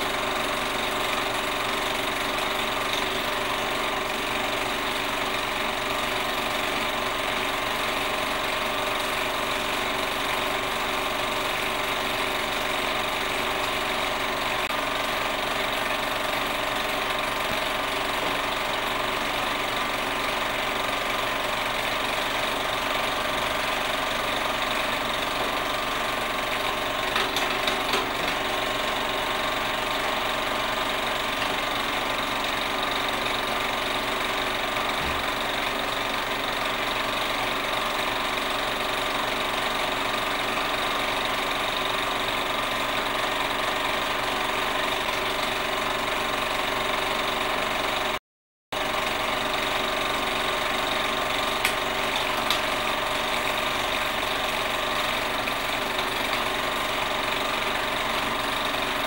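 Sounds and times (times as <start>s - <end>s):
machine running with hum and hiss: 0.0s - 48.2s, 48.8s - 59.0s.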